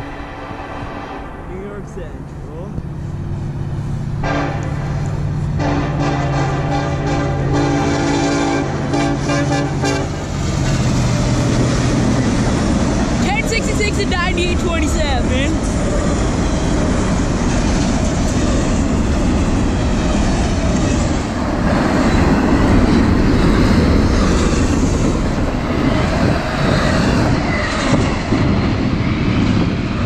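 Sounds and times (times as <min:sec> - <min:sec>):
freight cars rolling on rails: 0:00.0 - 0:30.0.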